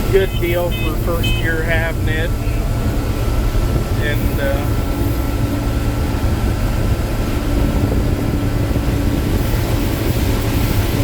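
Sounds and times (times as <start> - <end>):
combine harvester low drone: 0.0 - 11.0
thin steady whine: 0.0 - 11.0.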